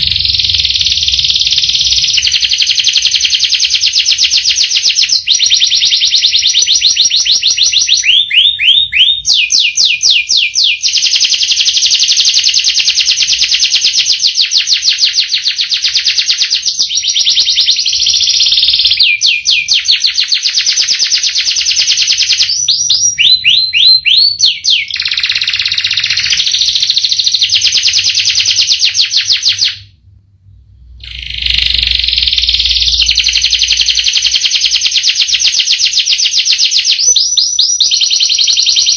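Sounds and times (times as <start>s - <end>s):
canary singing rapid trills: 0.0s - 29.9s, 31.0s - 38.9s.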